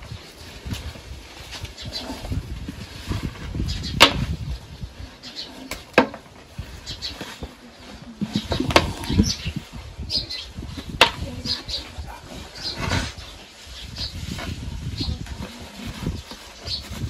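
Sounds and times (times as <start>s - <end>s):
rustling handling noise: 0.0s - 17.0s.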